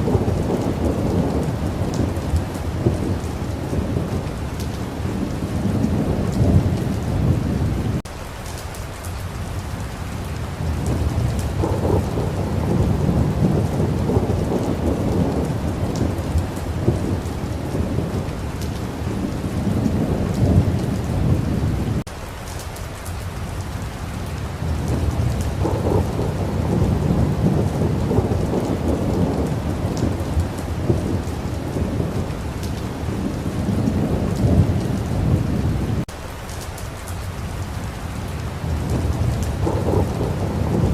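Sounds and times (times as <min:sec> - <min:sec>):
rolling thunder: 0:00.0 - 0:08.0, 0:10.6 - 0:22.1, 0:24.6 - 0:36.1, 0:38.6 - 0:40.9
steady rain: 0:00.0 - 0:40.9.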